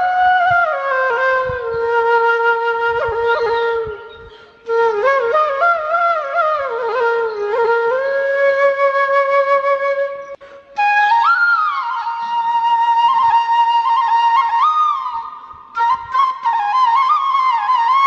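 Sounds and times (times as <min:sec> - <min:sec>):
flute with sliding notes: 0:00.0 - 0:18.0.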